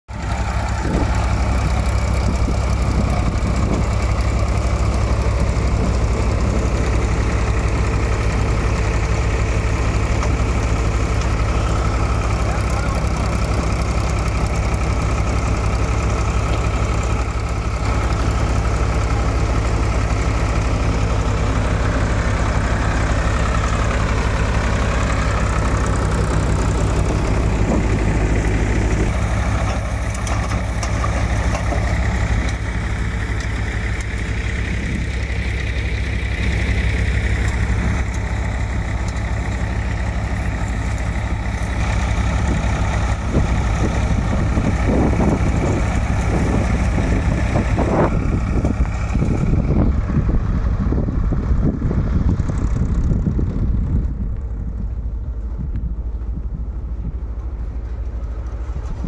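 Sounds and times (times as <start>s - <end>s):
thresher running: 0.1s - 56.2s.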